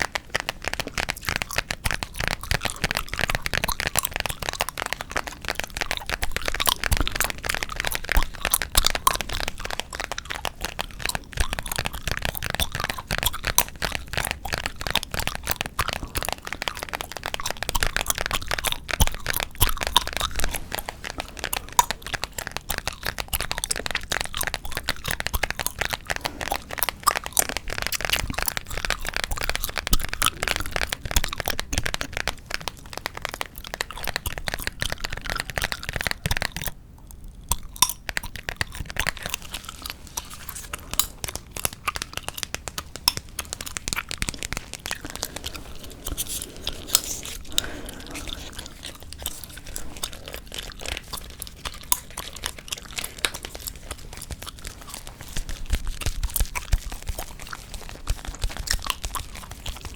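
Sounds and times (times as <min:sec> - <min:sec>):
gum chewing: 0:00.0 - 0:59.9.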